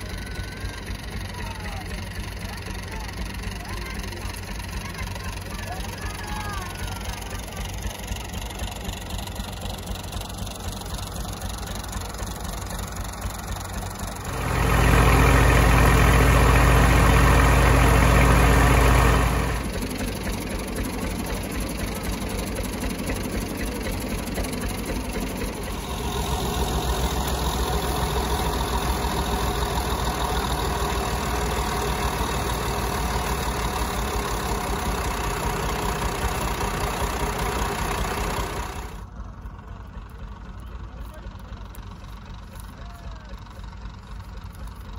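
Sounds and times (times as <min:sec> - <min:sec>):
tractor engine driving thresher: 0:00.0 - 0:44.9.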